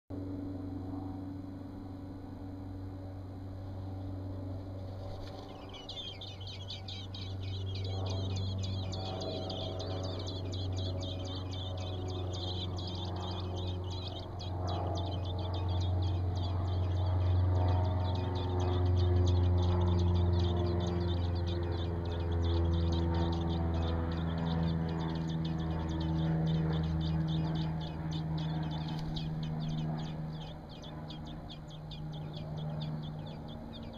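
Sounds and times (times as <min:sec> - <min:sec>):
steady low hum: 0:00.1 - 0:33.9
nestlings peeping: 0:04.8 - 0:33.9.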